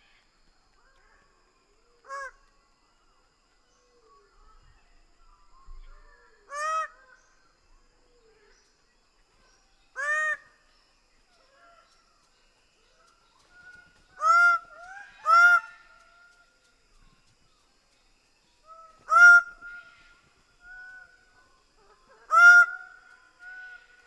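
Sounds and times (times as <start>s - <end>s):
faint softer bird calls: 0.0s - 24.0s.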